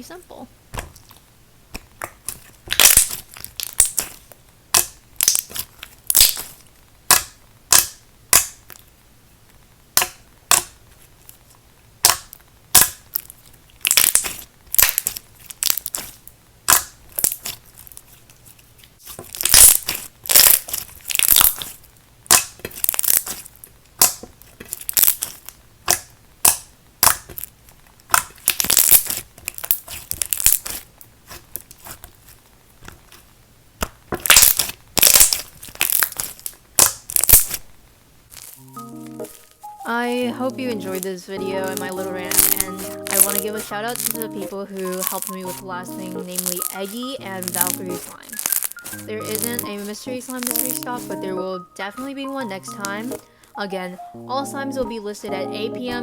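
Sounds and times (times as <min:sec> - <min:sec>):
slime crunching and popping: 0:00.8 - 0:08.9, 0:09.9 - 0:11.4, 0:12.0 - 0:37.7, 0:38.3 - 0:39.4, 0:40.8 - 0:51.2.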